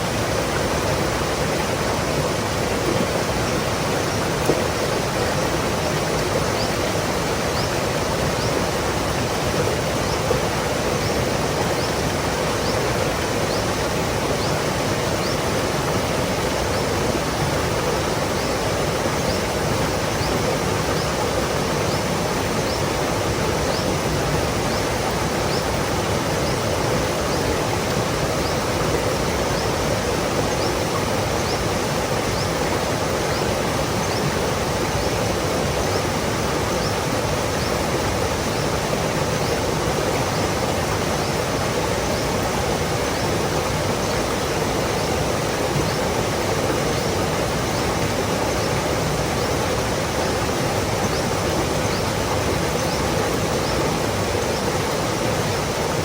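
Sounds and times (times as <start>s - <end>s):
stream water over rocks: 0.0s - 56.0s.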